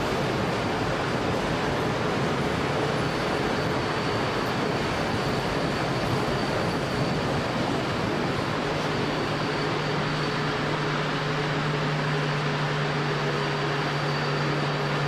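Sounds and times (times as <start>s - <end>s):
faint high whine: 0.0s - 15.0s
train wheels rumbling on rail: 0.0s - 15.0s.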